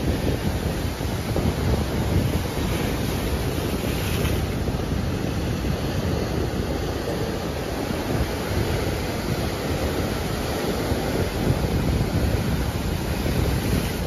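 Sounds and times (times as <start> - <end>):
sea surf breaking on rocks: 0.0 - 14.0
wind buffeting microphone: 0.0 - 14.0.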